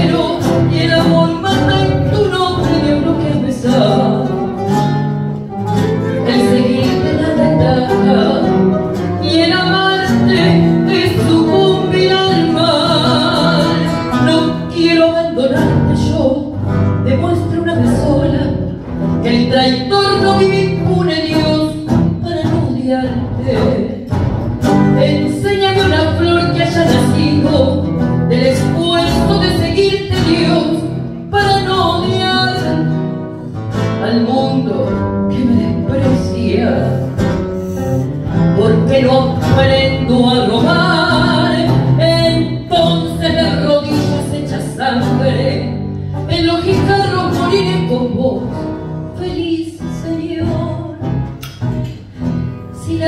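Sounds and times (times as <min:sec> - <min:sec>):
woman singing into microphone: 0:00.0 - 0:04.8, 0:05.9 - 0:33.1, 0:33.8 - 0:37.4, 0:38.2 - 0:51.3, 0:52.7 - 0:53.0
instrumental backing music: 0:00.0 - 0:53.0.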